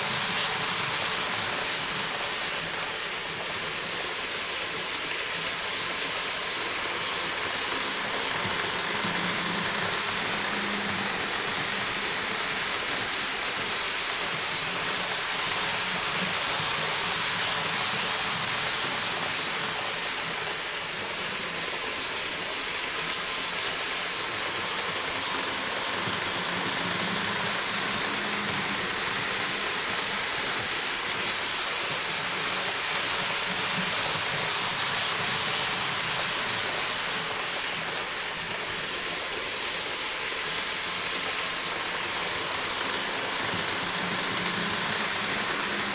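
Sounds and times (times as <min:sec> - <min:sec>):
metal wheels rolling on rails: 0:00.0 - 0:45.9
model train motor whirring: 0:00.0 - 0:45.9.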